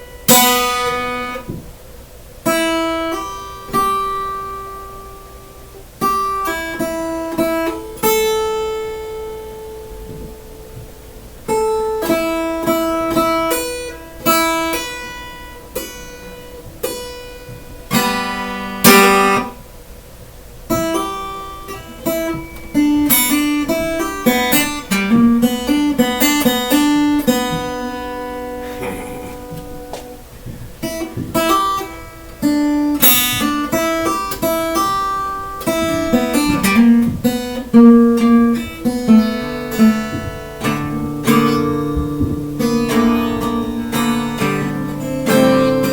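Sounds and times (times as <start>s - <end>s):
solo acoustic guitar: 0.0s - 45.9s.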